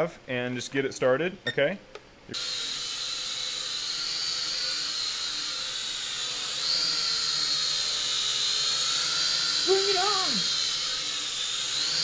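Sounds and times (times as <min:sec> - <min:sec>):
toy drone propellers whining: 0:02.4 - 0:12.0.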